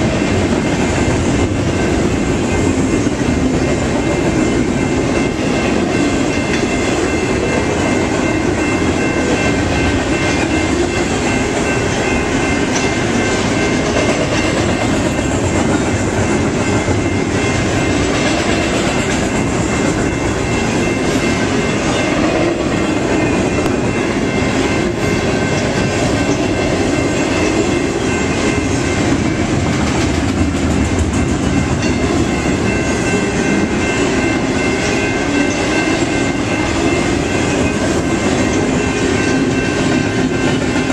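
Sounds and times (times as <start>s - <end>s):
high ringing tones: 0.0s - 29.6s, 31.1s - 40.9s
freight train cars rolling past: 0.0s - 40.9s.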